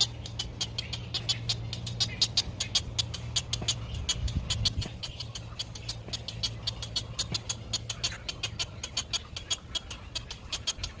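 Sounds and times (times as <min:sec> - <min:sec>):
low steady hum: 0:00.0 - 0:11.0
nestlings begging with clicking calls: 0:00.0 - 0:11.0.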